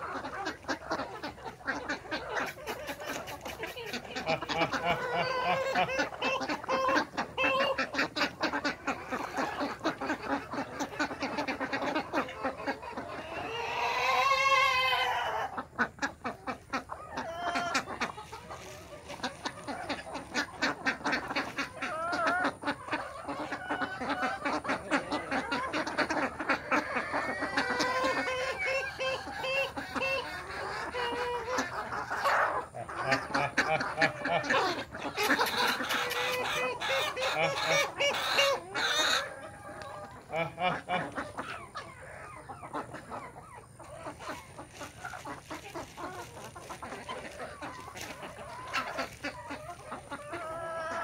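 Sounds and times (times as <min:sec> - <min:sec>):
chickens clucking: 0:00.0 - 0:51.0
ducks quacking: 0:00.0 - 0:51.0.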